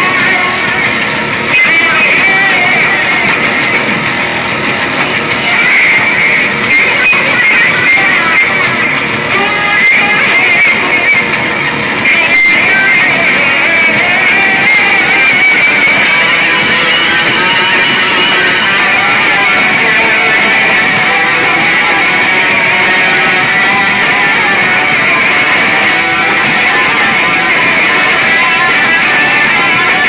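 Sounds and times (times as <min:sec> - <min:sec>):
distorted electric bass: 0:00.0 - 0:30.0
drums: 0:00.0 - 0:30.0.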